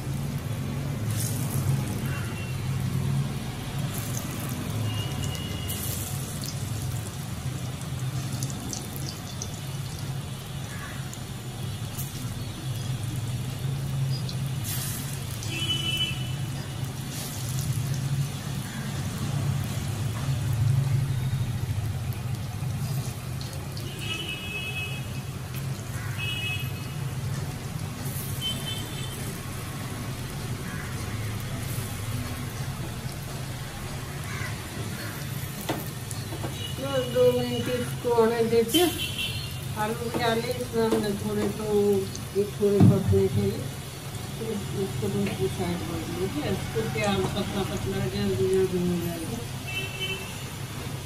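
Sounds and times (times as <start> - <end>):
oil sizzling deep-frying: 0.0 - 51.0
road traffic rumble: 0.0 - 51.0.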